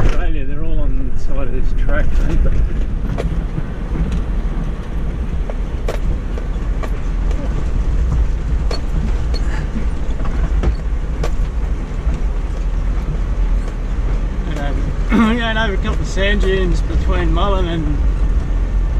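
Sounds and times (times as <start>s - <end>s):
vehicle rumbling on dirt track: 0.0s - 18.9s
sharp knocks and rattles: 1.8s - 17.2s.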